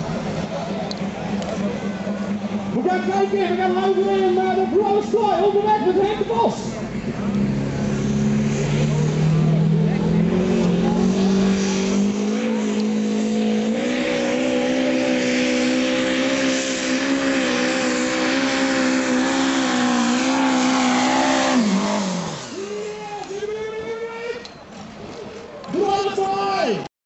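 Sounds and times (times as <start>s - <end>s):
diesel tractor engine at full throttle: 0.0s - 25.0s.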